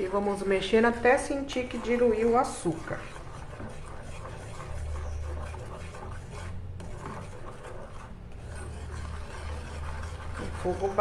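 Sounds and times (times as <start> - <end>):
steady low hum: 0.0 - 11.0
wooden spoon scraping a saucepan: 0.0 - 11.0.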